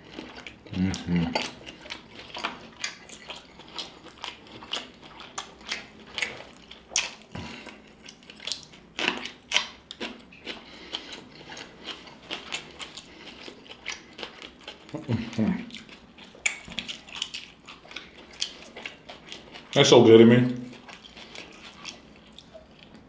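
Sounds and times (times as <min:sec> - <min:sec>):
wet chewing and lip smacking: 0:00.0 - 0:19.8, 0:20.6 - 0:23.0.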